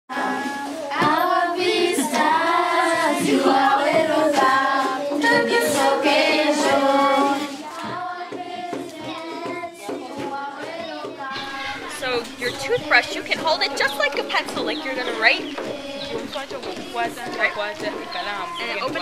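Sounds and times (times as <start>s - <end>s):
children singing: 0.1s - 19.0s.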